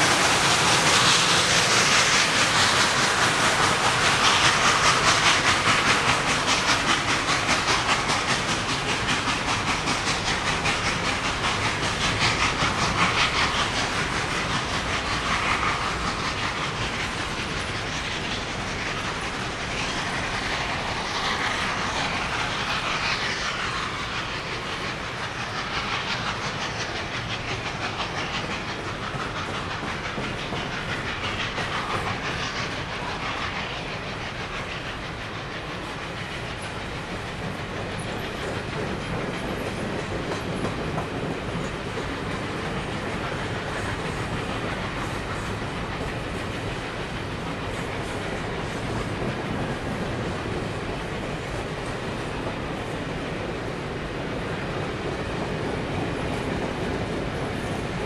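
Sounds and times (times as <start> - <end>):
steam locomotive exhaust: 0.0 - 58.0
train wheels clicking over rail joints: 0.0 - 58.0.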